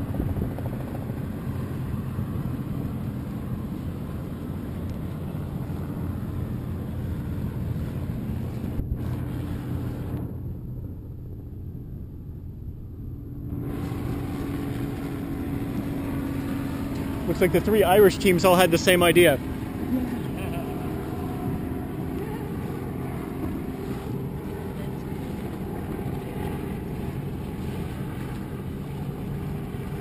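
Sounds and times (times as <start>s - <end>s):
motorboat engine running: 0.0s - 30.0s
wind buffeting microphone: 0.0s - 30.0s.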